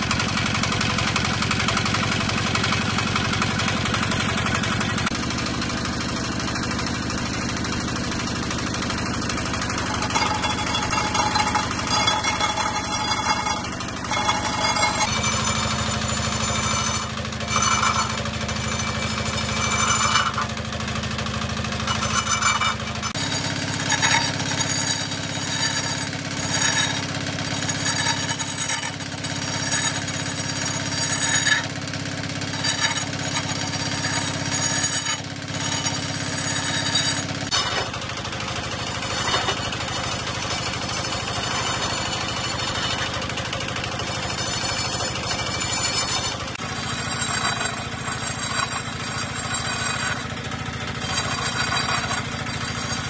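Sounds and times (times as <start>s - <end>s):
wood lathe running: 0.0s - 53.0s
tool scraping and chattering on wood: 5.8s - 53.0s.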